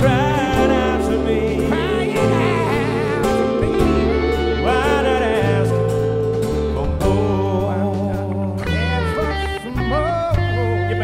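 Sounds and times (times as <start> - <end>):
live band playing country-rock ballad: 0.0 - 11.0.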